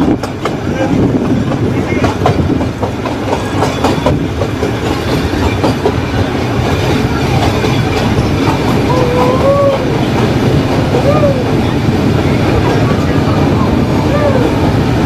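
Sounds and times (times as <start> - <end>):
wheels clicking over rail joints: 0.0 - 13.3
train rumbling and rattling: 0.0 - 15.0.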